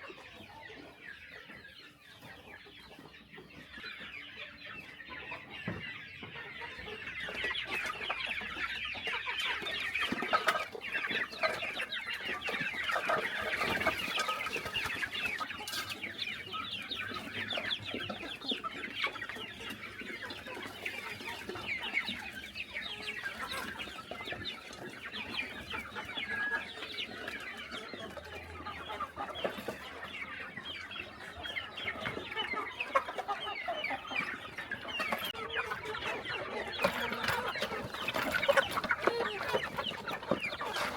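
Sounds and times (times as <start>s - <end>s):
chickens clucking and cheeping: 0.0s - 40.9s.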